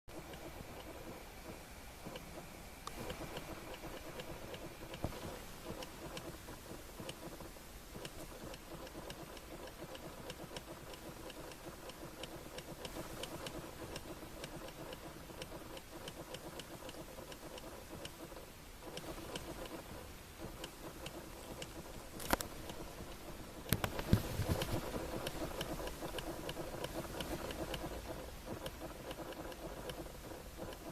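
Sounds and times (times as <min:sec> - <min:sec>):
irregular ticks: 0:00.1 - 0:30.9.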